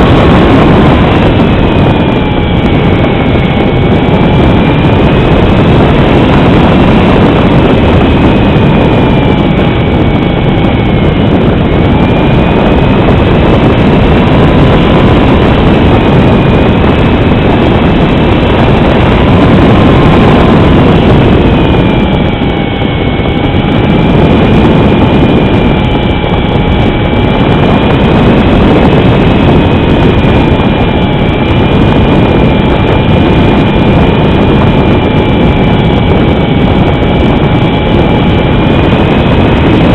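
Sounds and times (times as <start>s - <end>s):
propeller plane engines droning: 0.0s - 39.9s.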